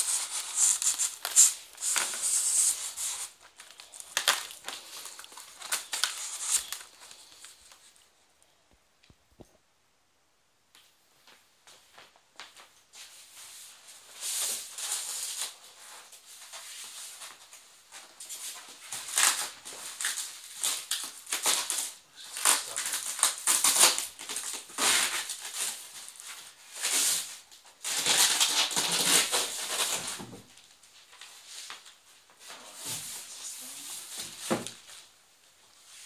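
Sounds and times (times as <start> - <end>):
plastic wrapping crinkling: 0.0 - 8.1, 13.9 - 36.0.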